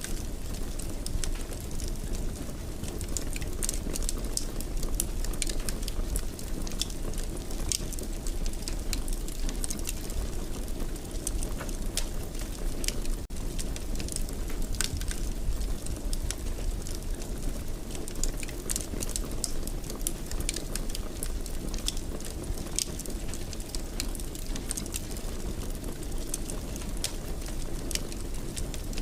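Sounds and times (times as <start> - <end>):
fireplace fire crackling and popping: 0.0 - 29.0
low rumble of flames: 0.0 - 29.0.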